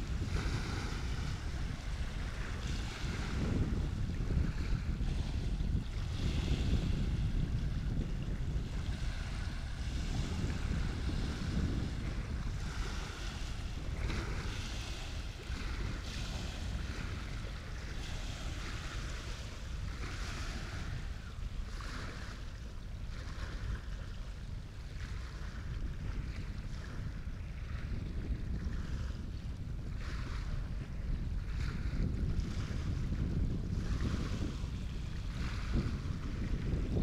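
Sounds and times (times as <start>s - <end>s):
waves splashing: 0.0s - 37.0s
wind buffeting microphone: 0.0s - 37.0s.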